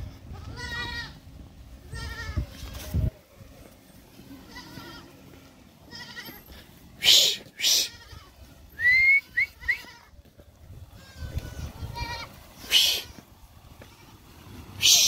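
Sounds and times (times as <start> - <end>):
goats bleating: 0.0 - 1.2, 1.8 - 15.0.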